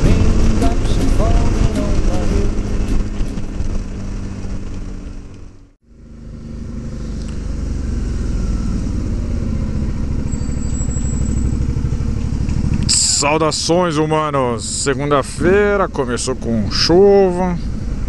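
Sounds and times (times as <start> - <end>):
motorcycle engine running: 0.0 - 18.0
road noise: 0.0 - 18.0.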